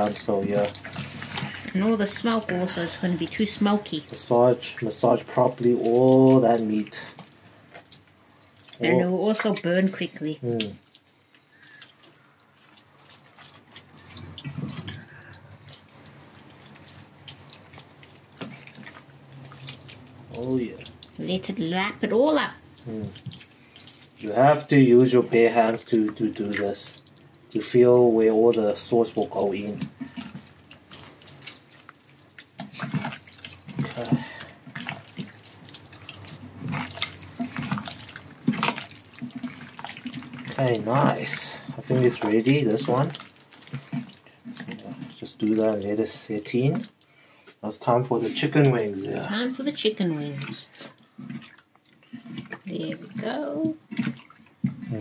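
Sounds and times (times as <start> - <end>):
hands kneading wet meat: 0.0 - 55.0.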